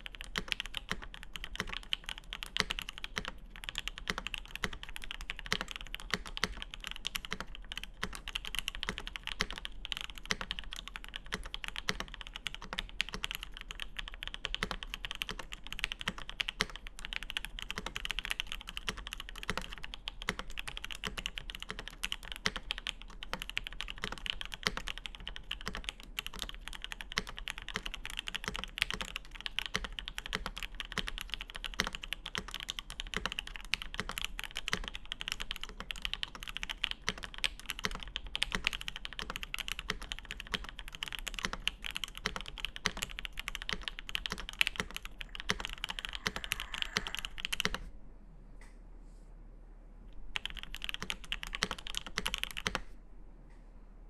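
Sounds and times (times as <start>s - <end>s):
fast typing on mechanical keyboard: 0.0s - 47.9s, 50.3s - 52.8s.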